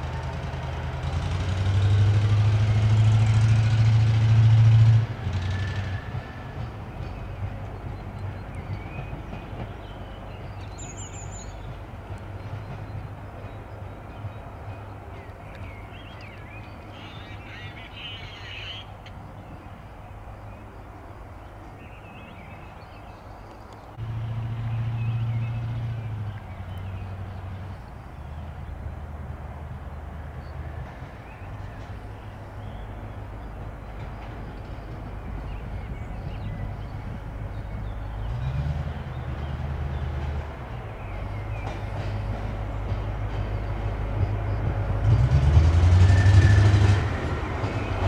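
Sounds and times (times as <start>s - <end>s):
diesel locomotive engine humming: 0.0s - 48.0s.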